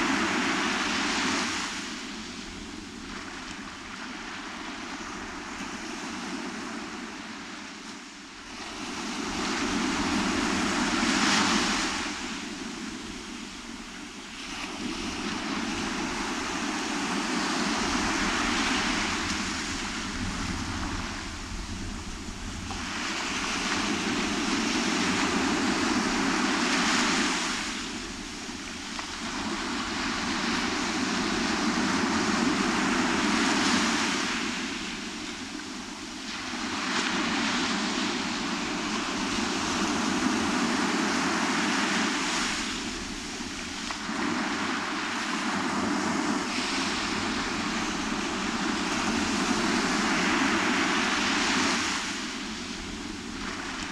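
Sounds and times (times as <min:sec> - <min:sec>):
wind: 0:00.0 - 0:53.9
breaking surf: 0:08.8 - 0:53.9.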